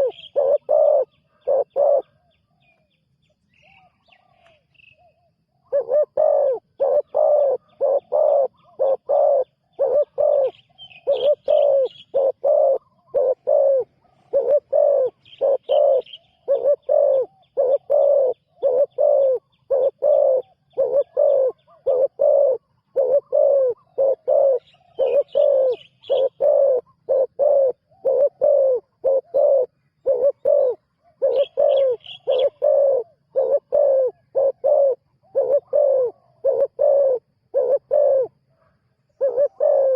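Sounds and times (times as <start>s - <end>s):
dove cooing: 0.0s - 2.4s, 3.6s - 39.9s
small birds chirping: 0.0s - 39.9s.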